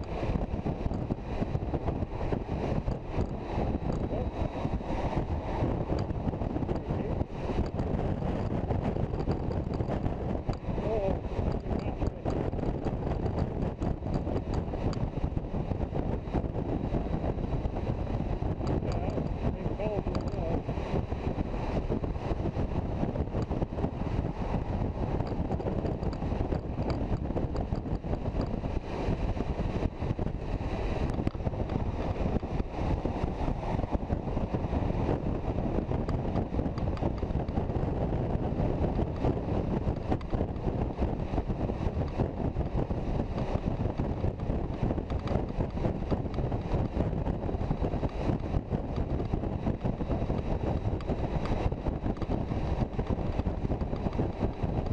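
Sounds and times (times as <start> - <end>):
wind rush over microphone: 0.0 - 54.9.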